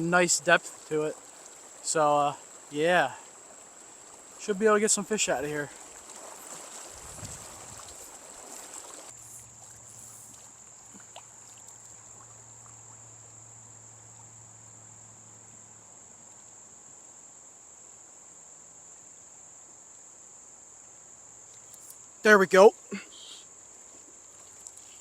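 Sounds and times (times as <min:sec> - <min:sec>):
faint river rush: 0:00.0 - 0:16.9, 0:21.3 - 0:25.0
crickets chirring: 0:00.0 - 0:25.0.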